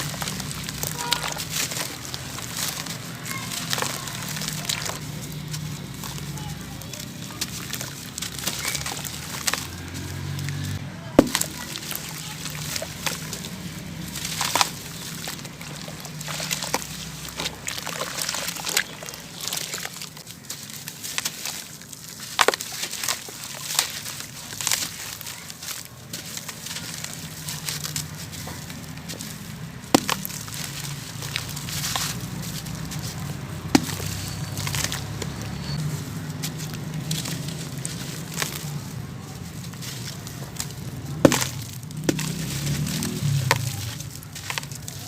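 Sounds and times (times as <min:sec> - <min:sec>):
cement chunks crunching by hand: 0:00.0 - 0:45.0.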